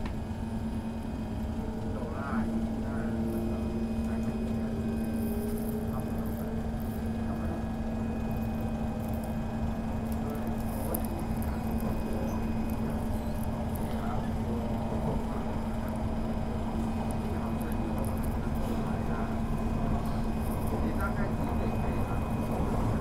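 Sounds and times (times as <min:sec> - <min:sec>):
constant low hum: 0:00.0 - 0:23.0
train rumbling: 0:00.0 - 0:23.0.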